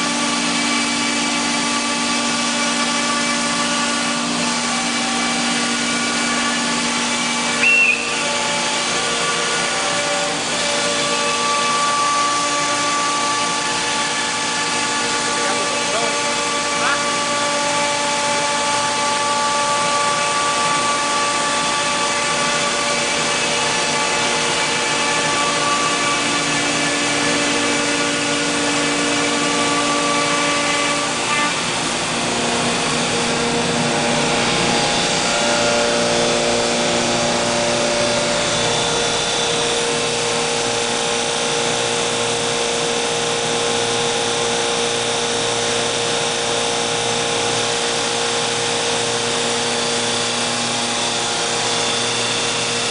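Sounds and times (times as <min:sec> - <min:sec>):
router spindle cutting wood: 0:00.0 - 0:52.9.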